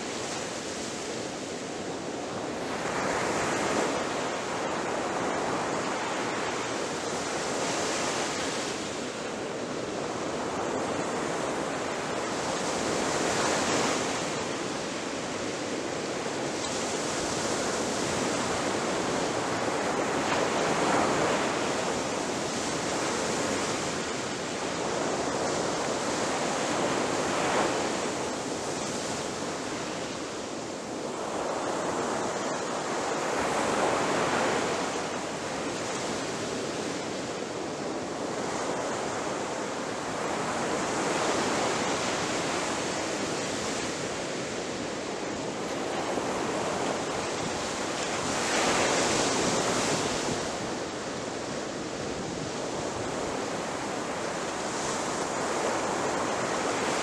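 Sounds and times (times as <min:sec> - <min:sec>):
ocean waves crashing on beach: 0:00.0 - 0:57.0.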